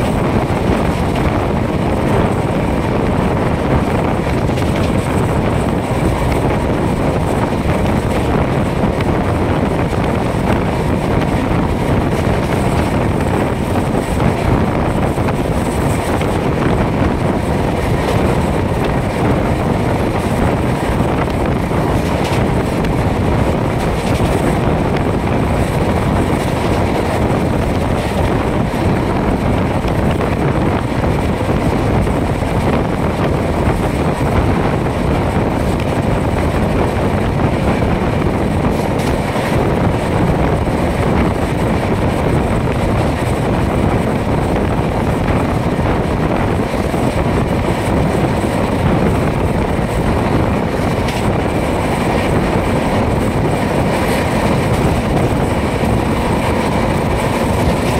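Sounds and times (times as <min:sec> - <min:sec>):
train wheels rushing on rails: 0:00.0 - 0:57.9
wind on microphone: 0:00.0 - 0:57.9.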